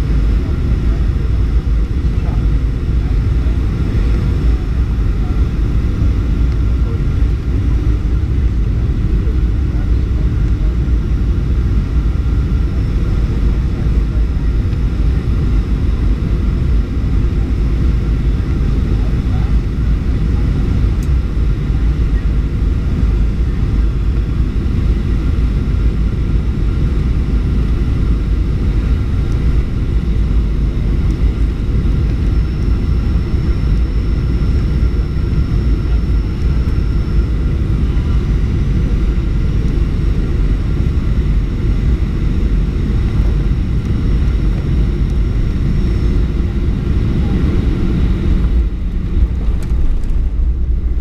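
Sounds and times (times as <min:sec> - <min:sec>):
jet engine cabin rush: 0:00.0 - 0:51.0.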